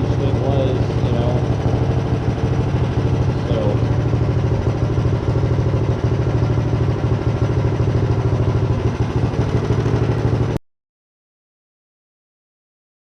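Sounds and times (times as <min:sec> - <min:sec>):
small engine idling: 0:00.0 - 0:10.6.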